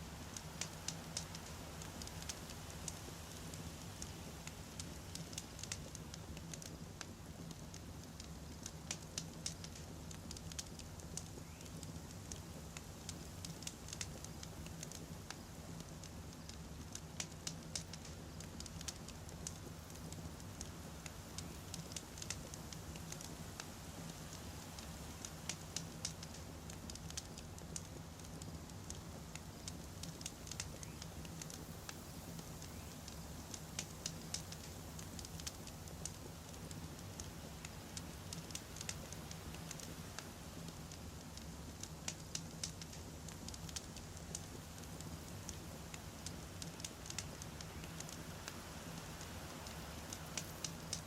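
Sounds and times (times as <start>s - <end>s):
campfire crackling: 0.0s - 51.0s
sharp fire pops: 0.3s - 51.0s.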